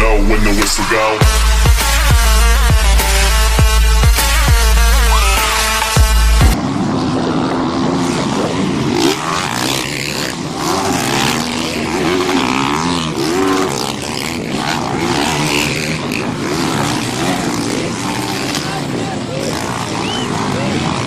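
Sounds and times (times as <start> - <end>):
dirt bike engines revving: 0.0 - 21.0
steady rushing noise: 0.0 - 21.0.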